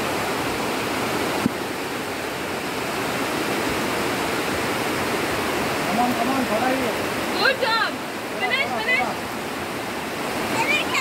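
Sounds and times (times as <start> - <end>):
river water pouring over rocks: 0.0 - 11.0.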